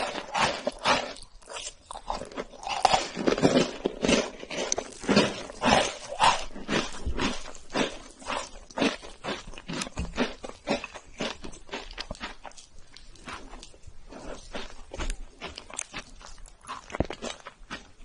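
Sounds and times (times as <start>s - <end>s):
person chewing cake: 0.0s - 18.0s.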